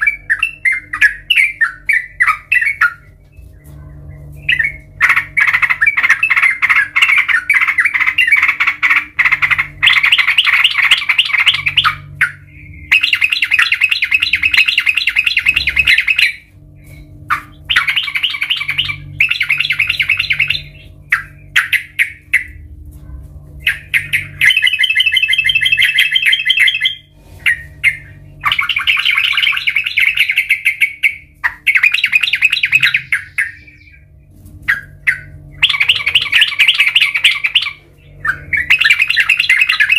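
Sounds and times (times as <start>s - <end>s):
bird singing rapid notes: 0.0s - 22.7s, 23.6s - 39.9s
faint low hum: 0.0s - 39.9s.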